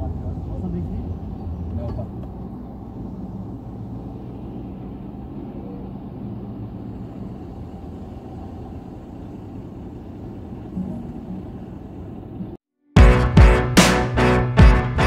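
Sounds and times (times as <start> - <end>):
car idling rumble: 0.0 - 12.6.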